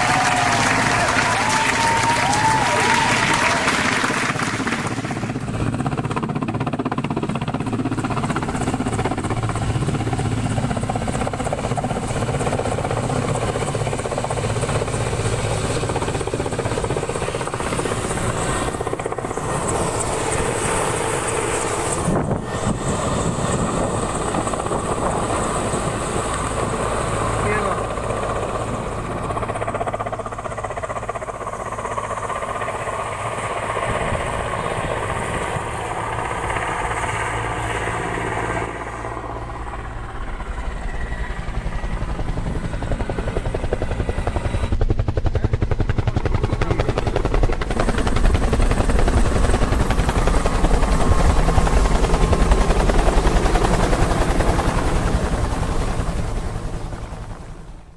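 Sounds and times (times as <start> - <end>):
helicopter engine hum: 0.0 - 57.9
helicopter rotor beat: 0.0 - 57.9.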